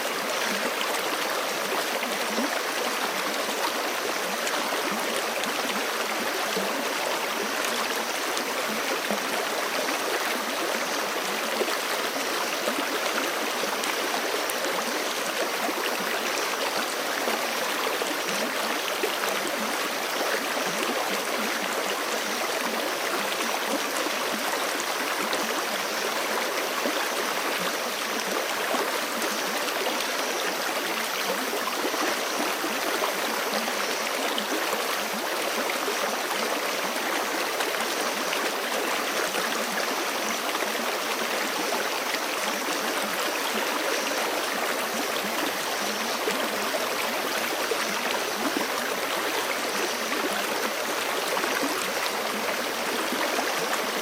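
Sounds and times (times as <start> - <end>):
creek flowing over rocks: 0.0 - 54.0.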